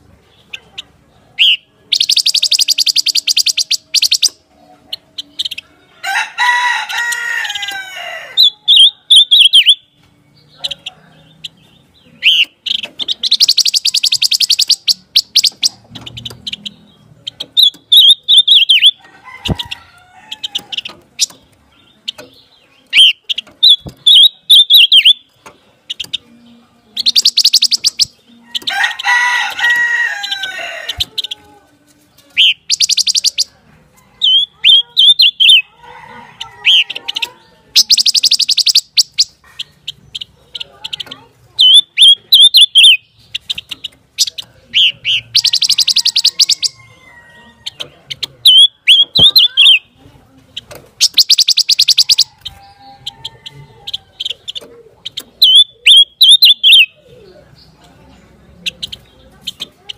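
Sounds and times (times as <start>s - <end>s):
bird singing with rapid trills: 0.0s - 6.0s, 6.8s - 59.9s.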